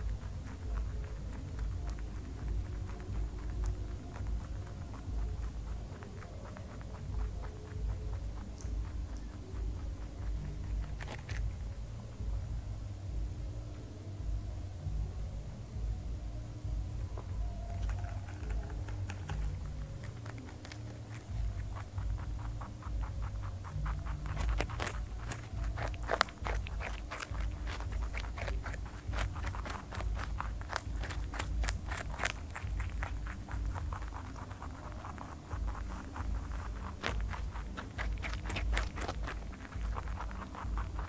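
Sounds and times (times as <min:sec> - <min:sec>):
rabbit crunching carrot: 0:00.0 - 0:41.0
steady low hum: 0:00.0 - 0:41.0.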